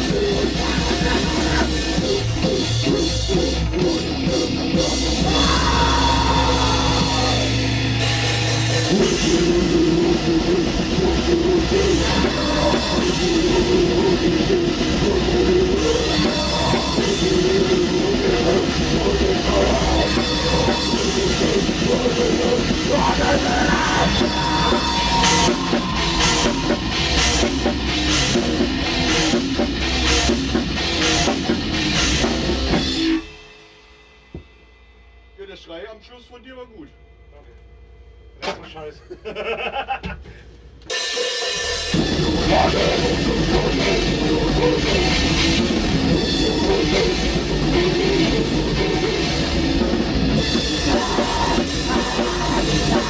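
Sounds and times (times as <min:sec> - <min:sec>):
metal band playing: 0:00.0 - 0:34.1, 0:40.9 - 0:53.0.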